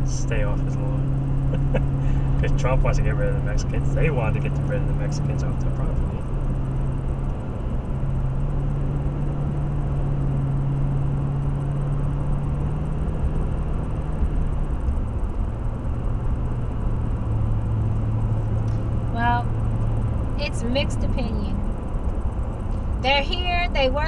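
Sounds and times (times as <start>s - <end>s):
car engine drone: 0.0s - 24.0s.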